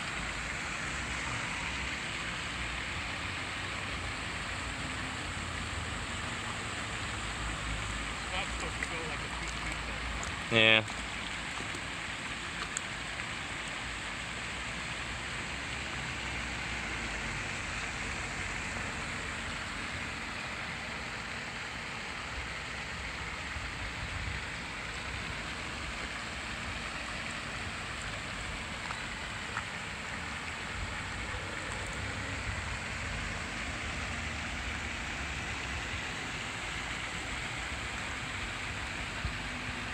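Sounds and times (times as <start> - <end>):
fountain spray splashing: 0.0 - 39.9.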